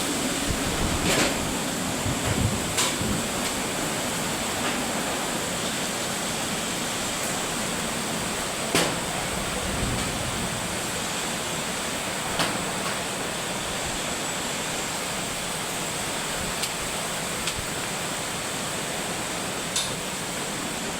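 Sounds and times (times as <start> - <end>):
heavy rain: 0.0 - 20.9
wind: 0.0 - 20.9.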